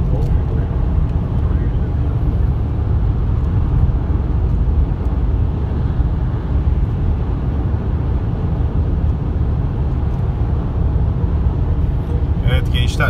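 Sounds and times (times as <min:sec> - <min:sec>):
car cabin road noise: 0:00.0 - 0:13.0.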